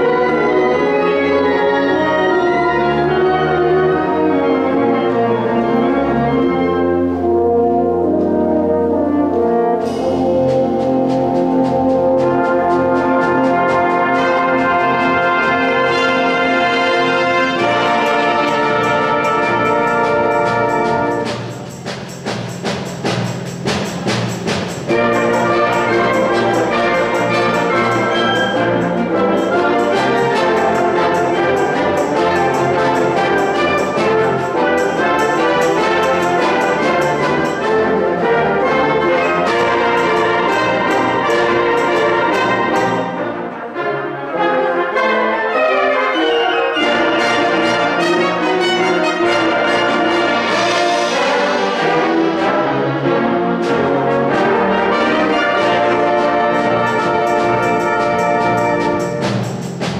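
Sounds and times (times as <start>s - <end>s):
wind band playing brass chords: 0.0s - 59.9s
percussion hits: 8.1s - 43.5s, 46.9s - 59.9s.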